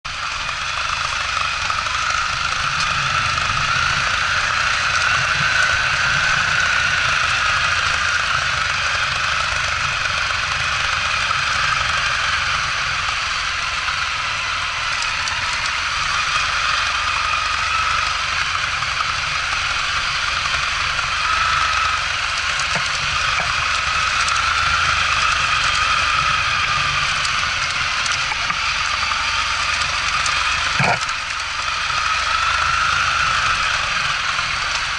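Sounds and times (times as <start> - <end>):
motorcycle engines running: 0.0 - 34.9.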